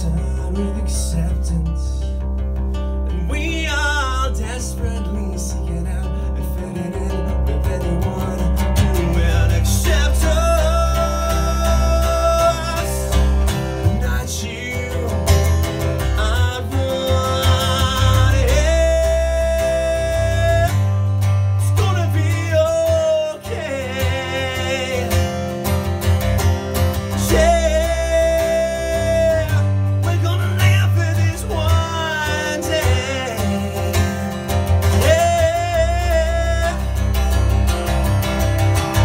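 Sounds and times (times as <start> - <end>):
guitar chords: 0.0 - 39.0.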